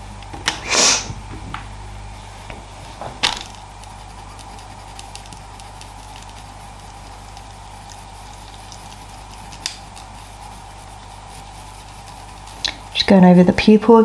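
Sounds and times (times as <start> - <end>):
low steady hum: 0.0 - 14.0
rustle of drawing supplies: 2.2 - 13.7.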